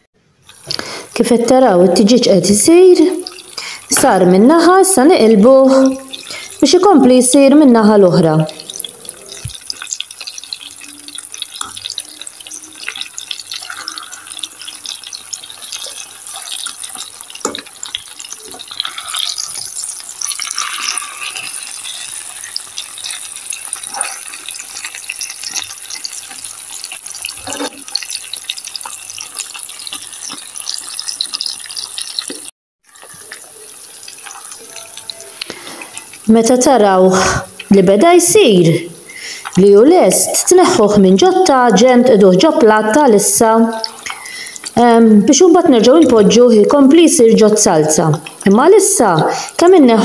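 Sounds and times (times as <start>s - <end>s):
chicken sizzling in hot oil: 0.4s - 50.0s.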